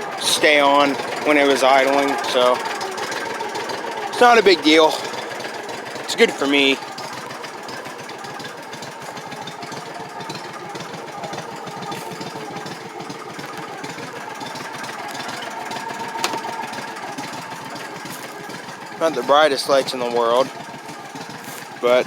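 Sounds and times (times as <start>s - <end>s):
utility vehicle engine idling: 0.0s - 22.0s.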